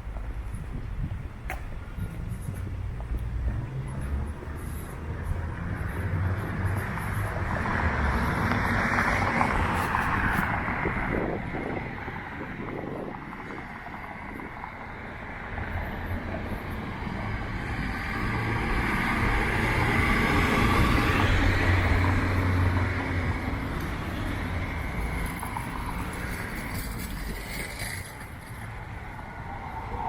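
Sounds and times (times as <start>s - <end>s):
vehicle passing on street: 0.0s - 30.0s.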